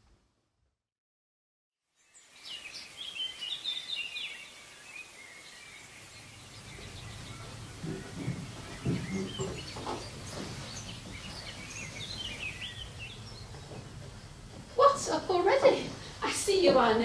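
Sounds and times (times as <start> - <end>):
birds chirping and trilling: 2.0 - 16.2
steady hiss: 2.0 - 17.0.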